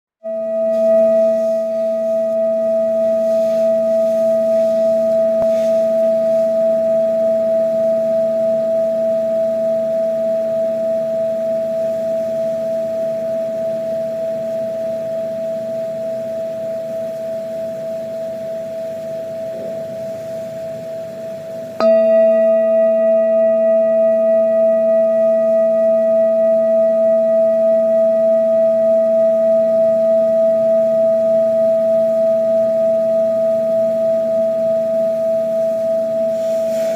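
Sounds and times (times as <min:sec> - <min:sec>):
singing bowl ringing: 0:00.2 - 0:36.9.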